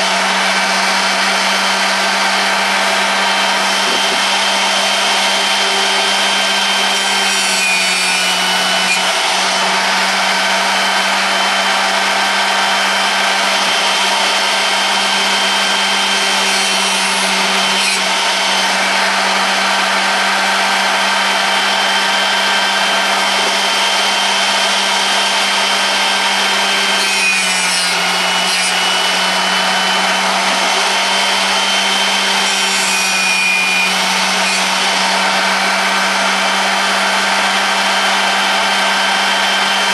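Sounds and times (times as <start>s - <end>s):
drill sharpener motor humming: 0.0s - 39.9s
grinding wheel rasping: 0.0s - 39.9s.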